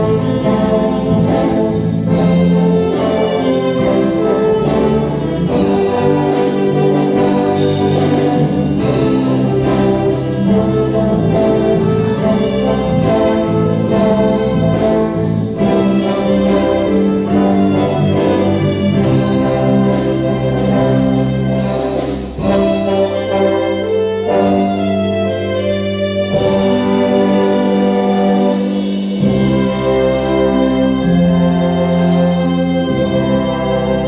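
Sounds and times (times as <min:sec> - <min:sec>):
orchestra playing held chords: 0:00.0 - 0:34.0.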